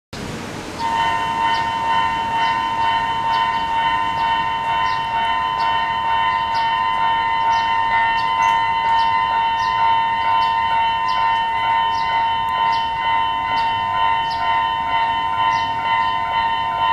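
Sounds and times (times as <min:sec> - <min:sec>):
level crossing alarm ringing: 0:00.8 - 0:16.9.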